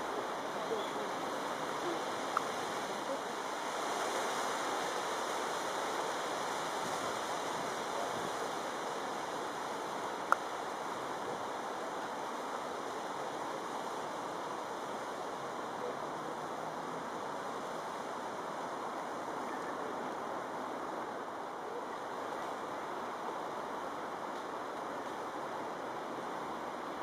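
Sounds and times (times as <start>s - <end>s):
rushing outdoor background noise: 0.0s - 27.0s.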